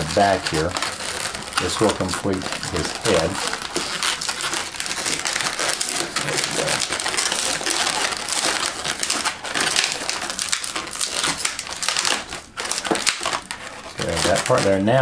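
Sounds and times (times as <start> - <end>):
balloons rubbing and squeaking: 0.0 - 15.0.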